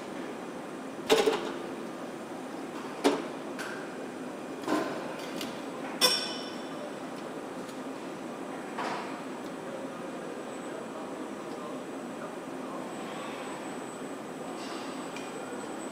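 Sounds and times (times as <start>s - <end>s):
factory hum: 0.0s - 15.9s.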